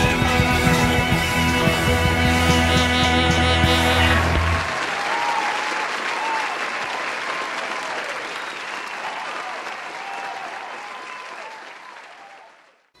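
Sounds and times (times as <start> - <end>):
audience applauding and cheering: 0.0 - 12.9.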